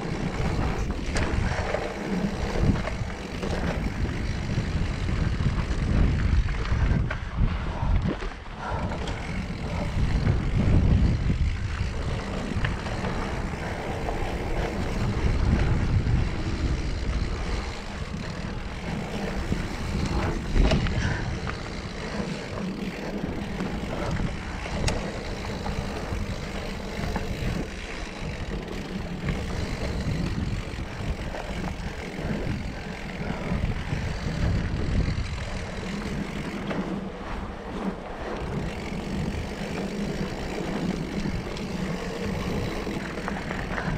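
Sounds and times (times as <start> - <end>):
bike clicks and rattles: 0.0 - 43.9
bike tyres rumbling on dirt: 0.0 - 43.9
wind buffeting microphone: 0.0 - 43.9.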